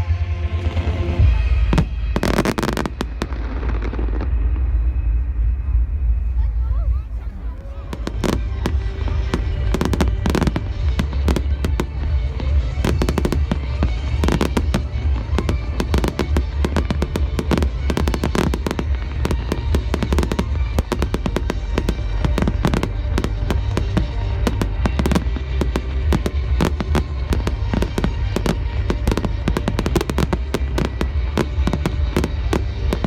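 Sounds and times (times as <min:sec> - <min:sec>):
heavy low rumble: 0:00.0 - 0:33.0
fireworks bangs and crackles: 0:00.5 - 0:33.0.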